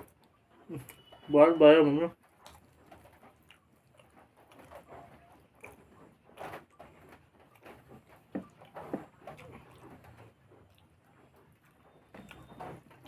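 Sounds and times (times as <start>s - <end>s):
person chewing food: 0.0s - 1.1s, 2.3s - 13.0s.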